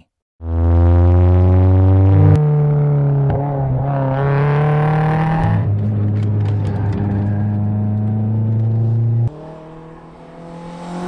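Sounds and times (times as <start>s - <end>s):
race car engine revving: 0.4s - 11.0s.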